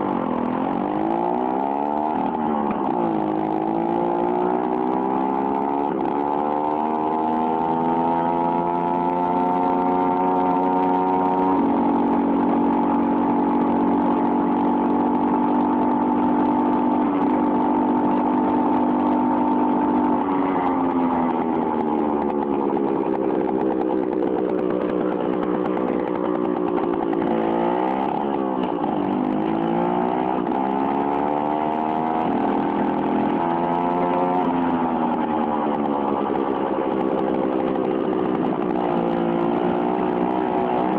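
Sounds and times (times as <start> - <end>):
two-stroke moped engine: 0.0 - 40.9.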